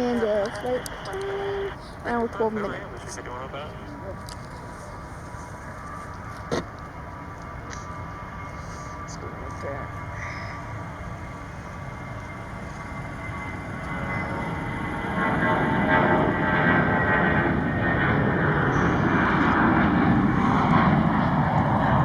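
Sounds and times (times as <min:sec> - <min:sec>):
faint engine whine: 0:00.0 - 0:22.0
jet engine roar: 0:00.0 - 0:22.0.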